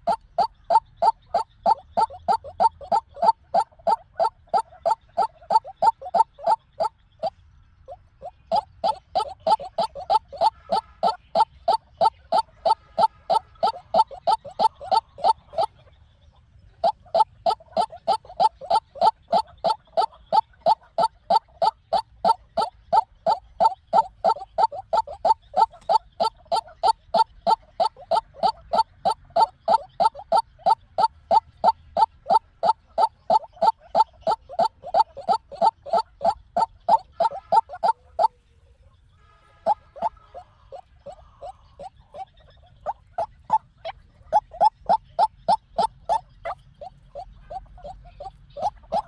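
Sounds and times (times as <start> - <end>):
waterhen calling: 0.0 - 16.0, 16.6 - 38.4, 39.2 - 49.0.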